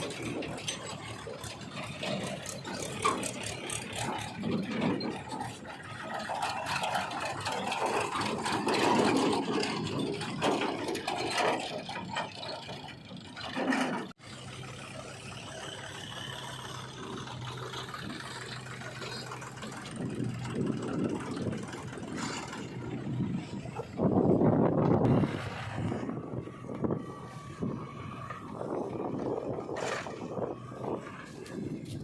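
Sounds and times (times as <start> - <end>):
diesel engine running: 0.0 - 32.0
machinery rattling and knocking: 0.0 - 32.0.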